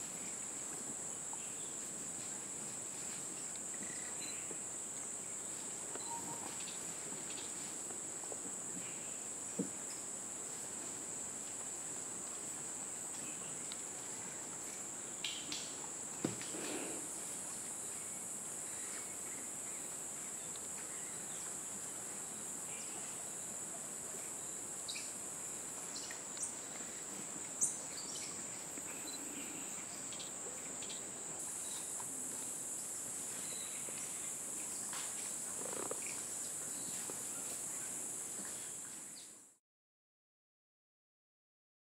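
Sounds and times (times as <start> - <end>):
insect chorus drone: 0.0 - 39.5.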